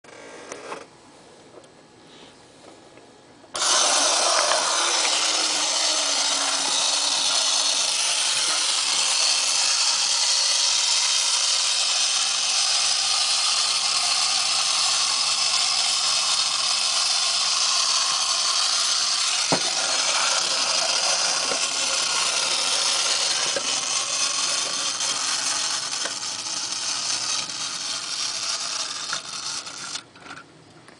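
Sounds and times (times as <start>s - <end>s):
wind-up toy rasping whir: 3.6s - 30.1s.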